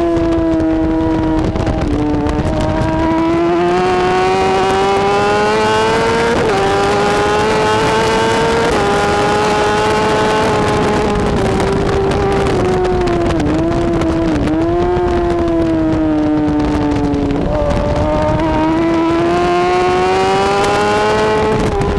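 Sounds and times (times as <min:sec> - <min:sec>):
motorcycle engine racing: 0:00.0 - 0:21.9
wind and road noise: 0:00.0 - 0:21.9.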